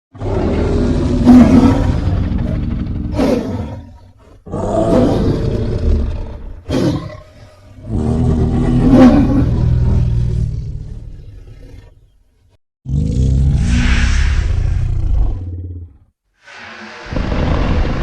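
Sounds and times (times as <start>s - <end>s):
monster roars: 0.2s - 10.6s, 12.9s - 18.0s.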